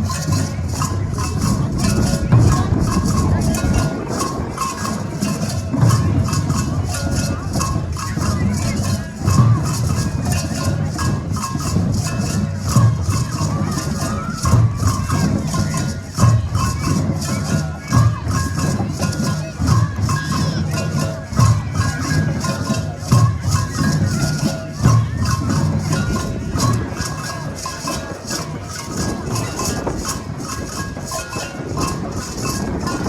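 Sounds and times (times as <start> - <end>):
shaker rattle: 0.0 - 33.0.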